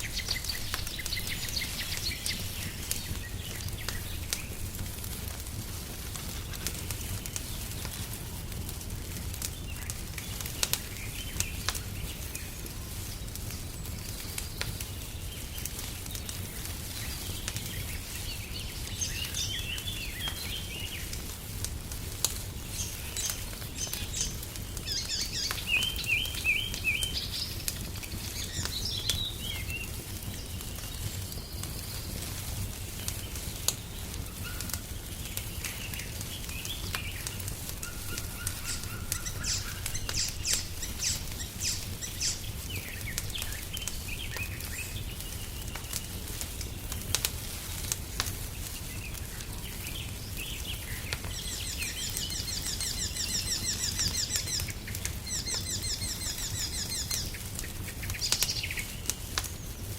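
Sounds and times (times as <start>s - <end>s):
songbirds chirping: 0.0s - 59.9s
wood fire crackling and popping: 0.0s - 59.9s.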